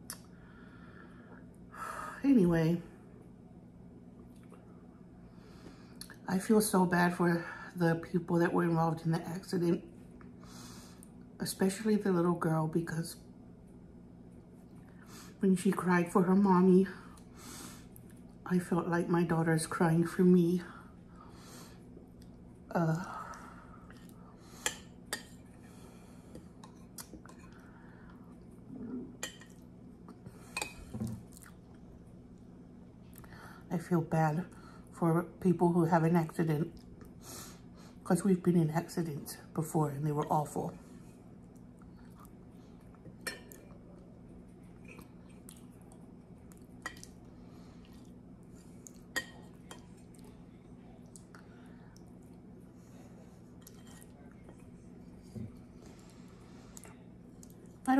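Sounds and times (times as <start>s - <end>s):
low steady hum: 0.0s - 57.9s.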